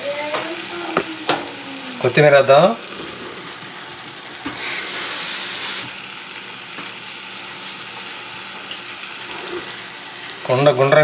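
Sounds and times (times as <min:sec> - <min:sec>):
curry sizzling and bubbling: 0:00.0 - 0:11.0.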